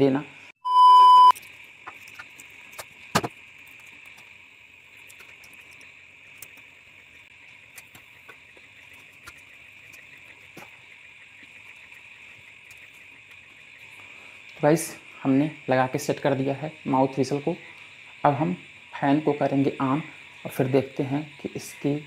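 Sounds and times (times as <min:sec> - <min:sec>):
night insects droning: 0:01.4 - 0:22.0.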